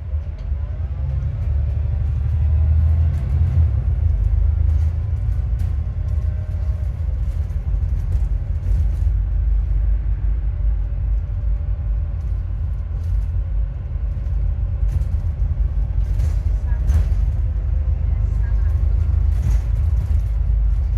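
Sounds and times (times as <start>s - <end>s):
bus engine and road rumble: 0.0s - 20.9s.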